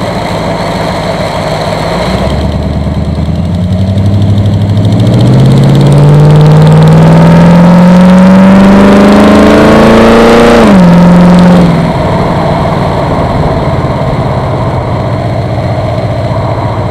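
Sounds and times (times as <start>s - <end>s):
car engine revving and idling: 0.0s - 16.9s.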